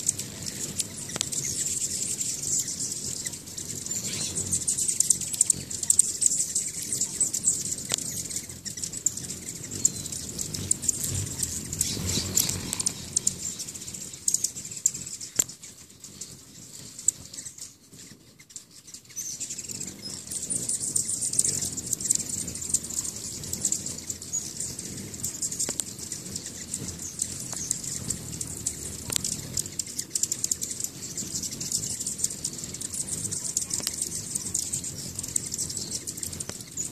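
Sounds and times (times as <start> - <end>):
high thin bird chirping: 0.0 - 36.9
hummingbird wings whirring: 0.0 - 36.9.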